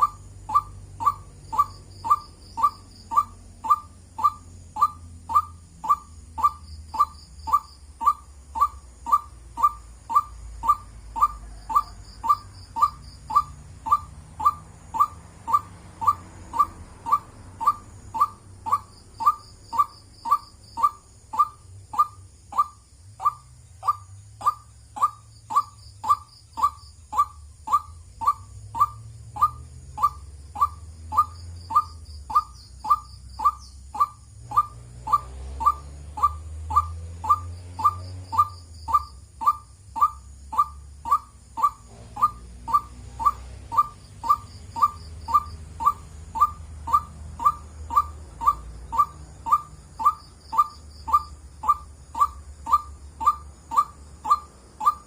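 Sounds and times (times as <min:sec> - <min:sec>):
bird repeating short call: 0:00.0 - 0:55.0.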